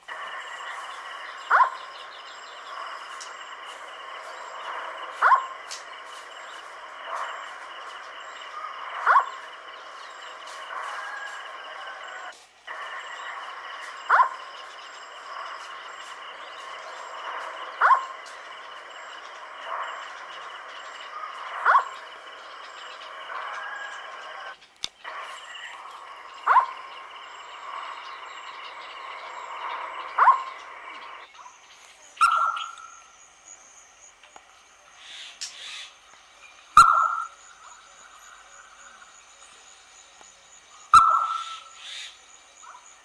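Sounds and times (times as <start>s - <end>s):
owl calling: 0.1s - 31.3s, 32.2s - 33.0s, 36.7s - 39.0s, 40.9s - 42.8s.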